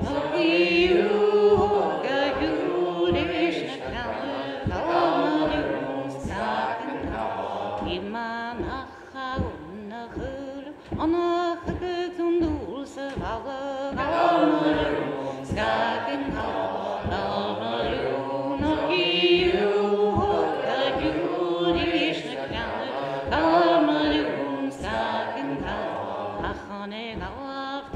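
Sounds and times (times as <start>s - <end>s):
group singing unaccompanied: 0.0s - 27.9s.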